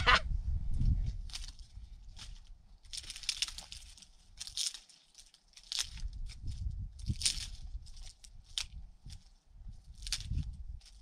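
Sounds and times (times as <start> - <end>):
wind rumble on microphone: 0.0 - 4.6, 5.7 - 11.0
hands crumpling dry material: 1.2 - 11.0.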